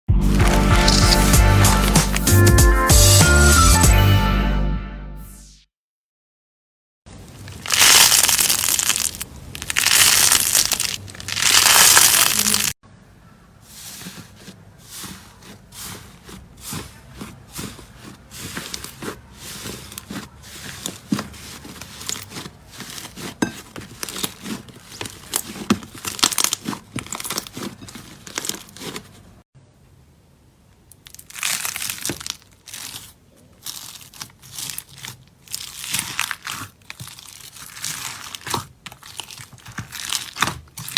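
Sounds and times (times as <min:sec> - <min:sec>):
slime crunching and crinkling: 0:00.2 - 0:02.4, 0:07.2 - 0:12.8, 0:13.6 - 0:29.4, 0:30.9 - 0:40.9.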